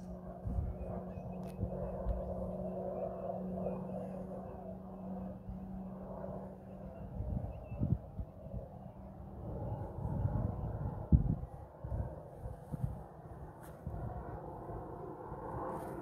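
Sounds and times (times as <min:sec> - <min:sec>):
distant aircraft engine droning: 0:00.0 - 0:16.0.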